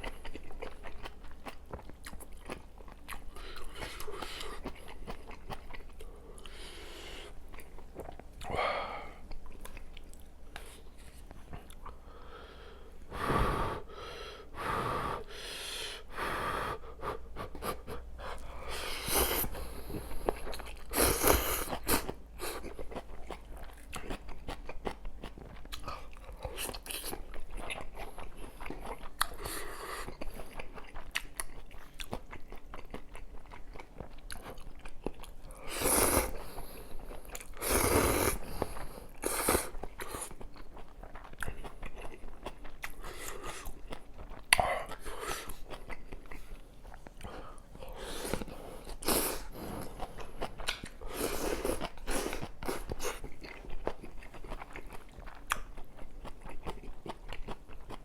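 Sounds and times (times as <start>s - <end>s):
close chewing and biting: 0.0s - 6.6s, 7.4s - 8.6s, 17.3s - 58.0s.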